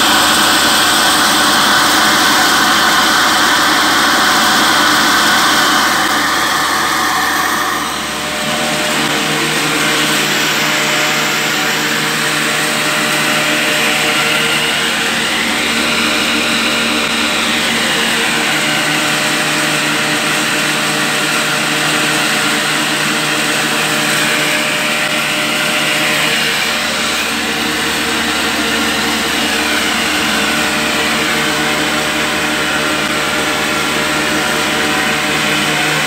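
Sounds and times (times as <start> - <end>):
mill motor humming and whirring: 0.0 - 36.0.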